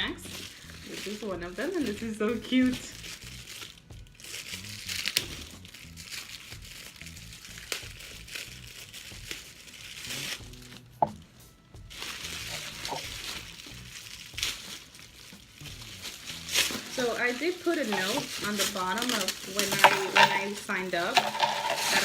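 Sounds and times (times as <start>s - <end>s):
packaging crinkling and rustling: 0.0s - 11.2s, 11.9s - 22.0s
faint music: 0.0s - 22.0s.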